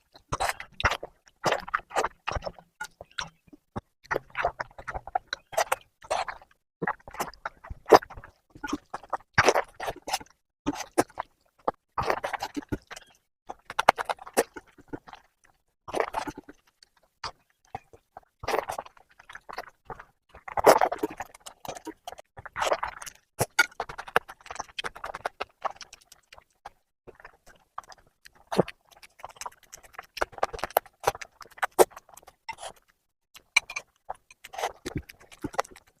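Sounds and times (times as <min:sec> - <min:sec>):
wet chewing: 0:00.0 - 0:36.0.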